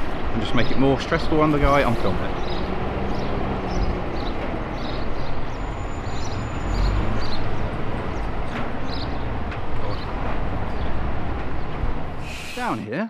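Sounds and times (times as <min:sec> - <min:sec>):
diesel lorry engine running: 0:00.0 - 0:12.9.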